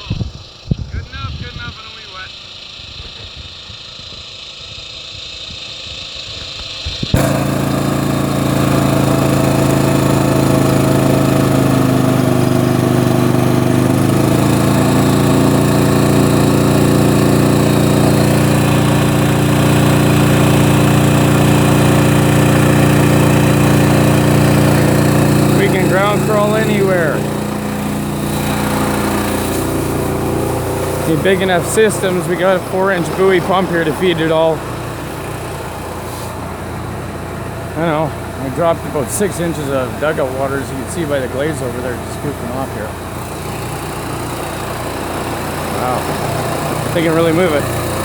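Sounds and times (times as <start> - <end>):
pump engine running: 0.0 - 48.0.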